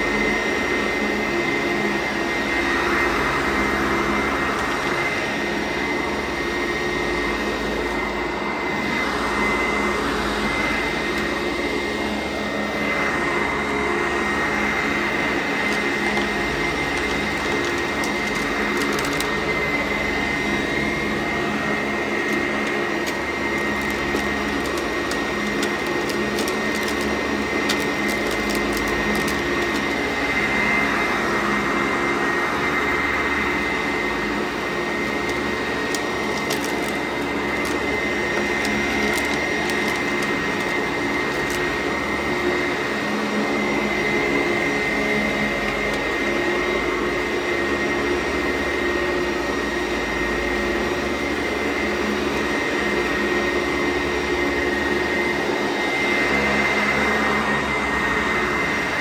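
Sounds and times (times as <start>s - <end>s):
vacuum cleaner motor drone: 0.0s - 59.0s.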